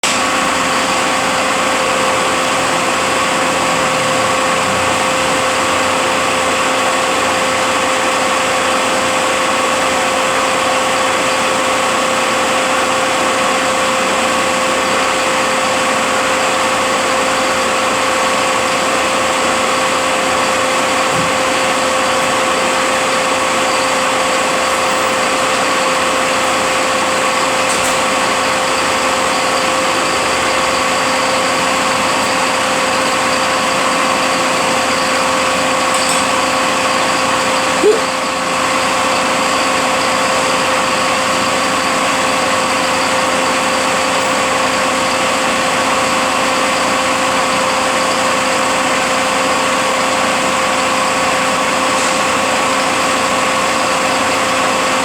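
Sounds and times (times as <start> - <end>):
truck transmission whining: 0.0 - 55.0.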